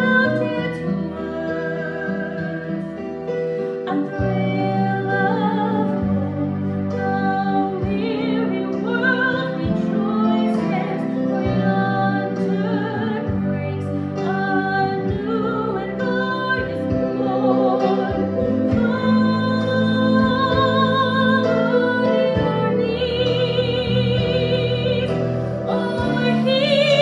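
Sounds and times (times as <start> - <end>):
sustained instrumental accompaniment: 0.0 - 27.0
classical solo voice singing: 3.9 - 27.0.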